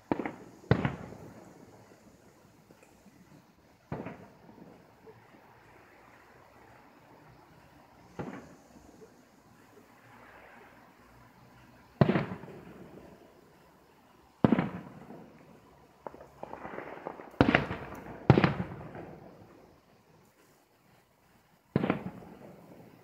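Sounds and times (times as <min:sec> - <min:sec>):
firework booms echoing: 0:00.0 - 0:05.8, 0:06.6 - 0:09.4, 0:10.2 - 0:13.6, 0:14.3 - 0:19.8, 0:21.7 - 0:23.0.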